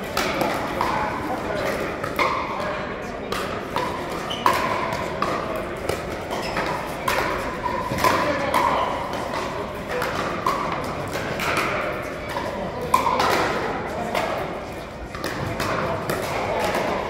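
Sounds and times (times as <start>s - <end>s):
paddles hitting plastic ball: 0.0s - 2.5s, 3.3s - 17.0s.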